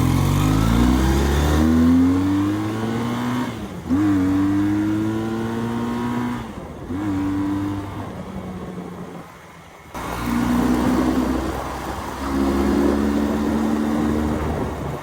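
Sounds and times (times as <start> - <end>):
motorcycle engine accelerating: 0.0 - 9.2, 10.0 - 15.0.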